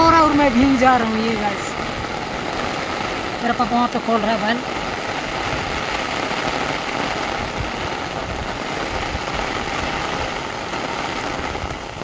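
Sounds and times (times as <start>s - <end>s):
heavy rain on an umbrella: 0.0s - 12.0s.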